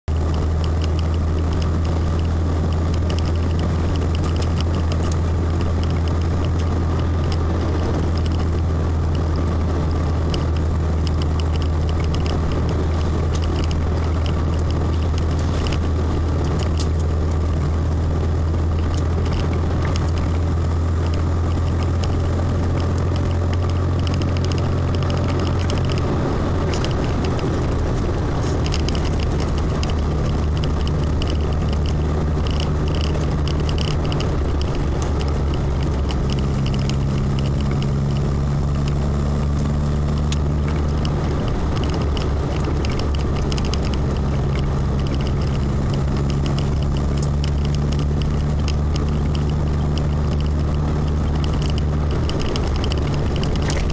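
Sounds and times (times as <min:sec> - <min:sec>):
car engine and road drone: 0:00.0 - 0:53.9
small ticks and crackles: 0:00.0 - 0:53.9.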